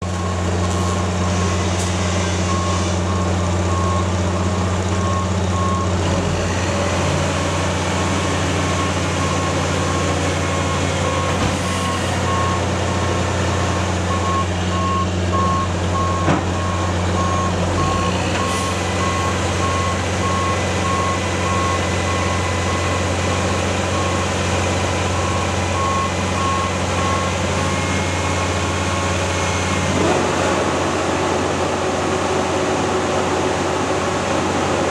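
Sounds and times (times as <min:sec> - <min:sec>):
truck backup alarm beeping: 0:00.0 - 0:06.7, 0:08.0 - 0:30.2
diesel truck engine running: 0:00.0 - 0:34.9.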